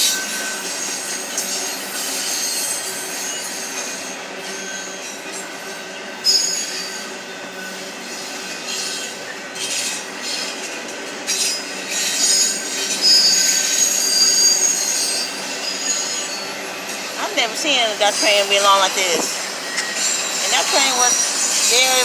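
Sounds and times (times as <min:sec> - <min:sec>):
freight train rumble: 0:00.0 - 0:22.0
train wheels squealing on rails: 0:00.0 - 0:22.0.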